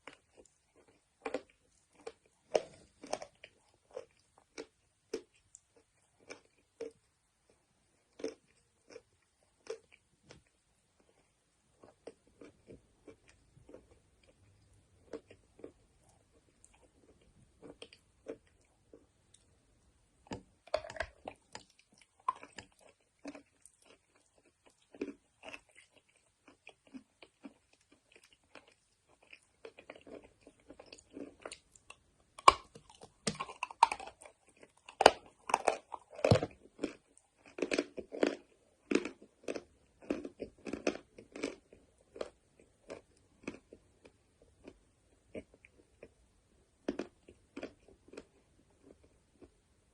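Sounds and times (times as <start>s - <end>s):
person chewing chalk crunching: 0.0s - 19.5s, 20.2s - 46.2s, 46.8s - 49.6s.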